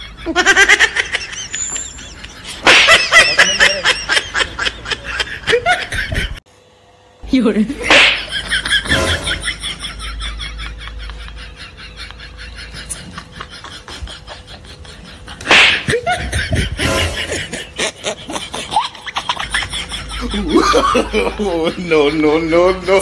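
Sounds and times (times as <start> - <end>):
people laughing: 0.0 - 6.4, 7.8 - 23.0.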